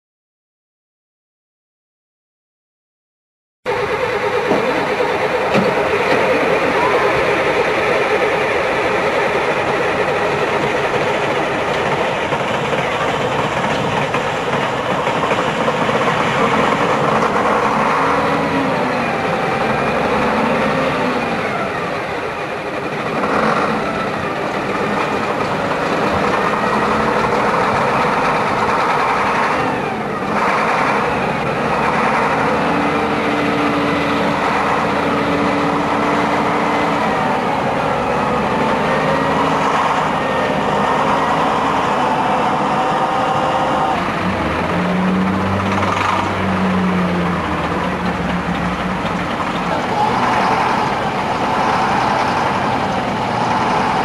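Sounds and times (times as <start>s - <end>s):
diesel bus engines idling: 3.7s - 54.0s.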